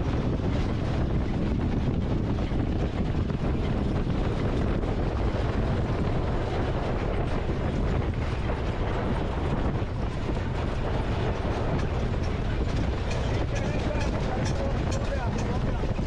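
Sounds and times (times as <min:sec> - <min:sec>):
wagon wheels rumbling and rattling: 0:00.0 - 0:16.0.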